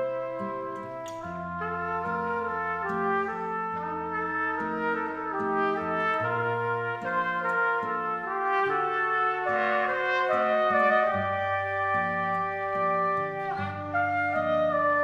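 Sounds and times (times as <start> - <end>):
small brass ensemble playing: 0.0 - 15.0.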